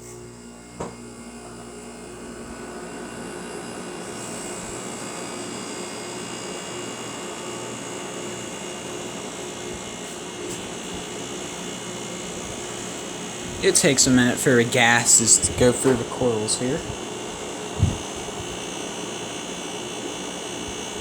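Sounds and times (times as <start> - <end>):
window air conditioner running: 0.0 - 21.0.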